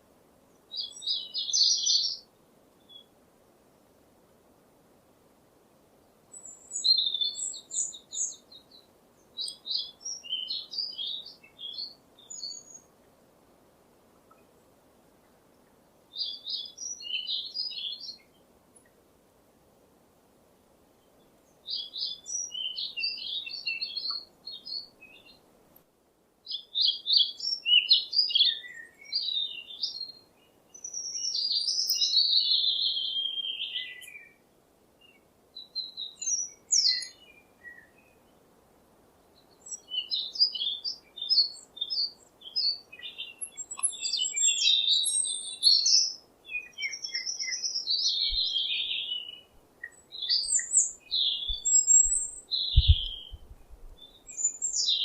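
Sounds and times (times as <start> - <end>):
songbird singing: 0.0 - 3.9, 5.9 - 19.0, 20.8 - 55.0.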